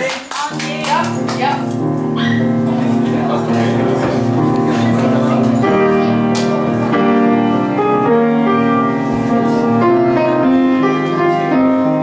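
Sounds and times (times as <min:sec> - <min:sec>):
slow piano tune: 0:00.0 - 0:12.0.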